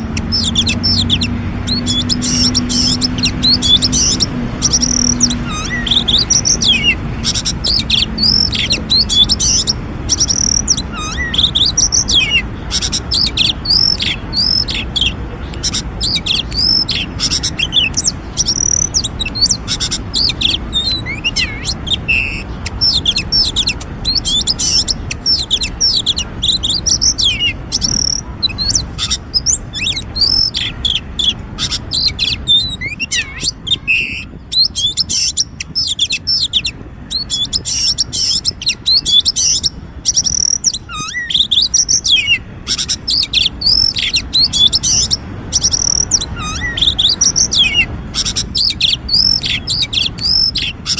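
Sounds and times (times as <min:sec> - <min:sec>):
bird singing whistles and chirps: 0:00.0 - 0:50.9.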